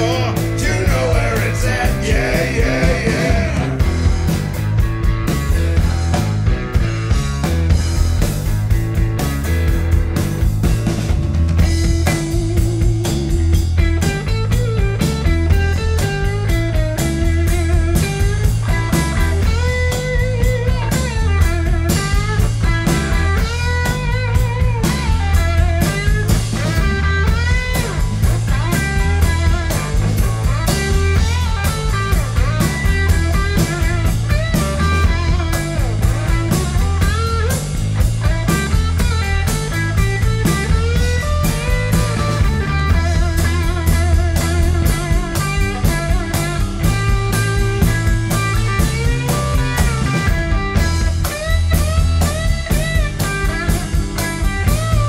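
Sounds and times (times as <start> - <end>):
bass guitar: 0.0 - 55.0
drum kit groove: 0.0 - 55.0
electric guitar lead with bent notes: 0.0 - 55.0.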